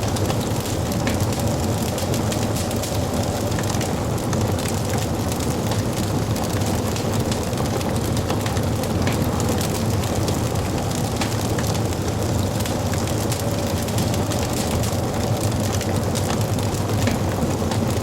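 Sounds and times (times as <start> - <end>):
fire crackling and popping: 0.0 - 18.0
flames rushing: 0.0 - 18.0.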